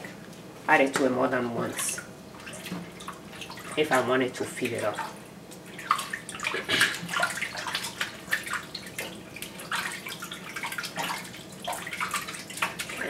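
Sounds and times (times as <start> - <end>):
water splashing in a plastic bowl: 1.0 - 13.0.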